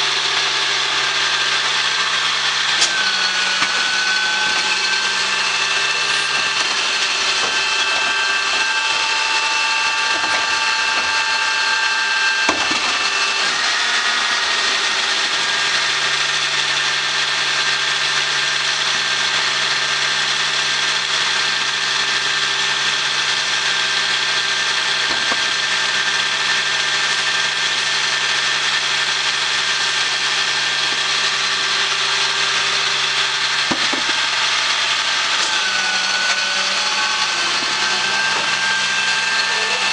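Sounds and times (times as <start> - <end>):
high mechanical whine: 0.0 - 39.9
truck engine hum: 0.0 - 39.9.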